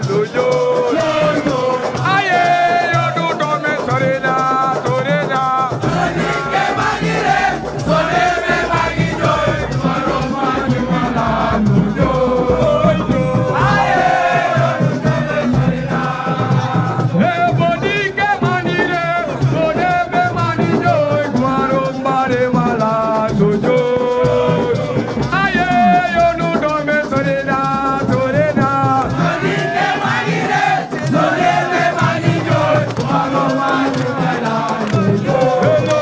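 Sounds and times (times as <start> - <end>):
music with singing voices: 0.0 - 36.0
rattle percussion: 0.0 - 36.0.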